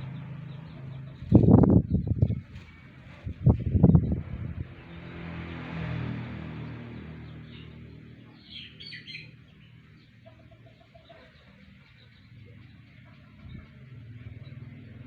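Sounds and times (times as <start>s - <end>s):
bird chirping: 0.0s - 5.3s, 6.6s - 15.0s
low engine hum: 0.0s - 10.6s, 11.3s - 15.0s.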